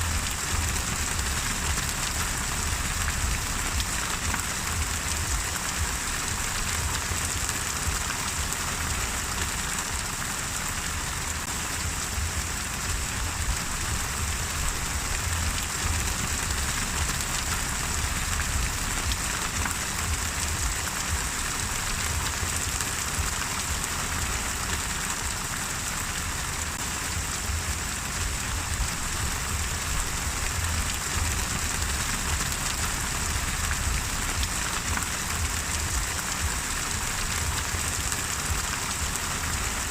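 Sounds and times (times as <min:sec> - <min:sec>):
low rumble: 0:00.0 - 0:08.1, 0:11.5 - 0:24.4, 0:26.8 - 0:39.7
rain drop ticks: 0:00.0 - 0:39.9
rain pattering: 0:00.0 - 0:39.9.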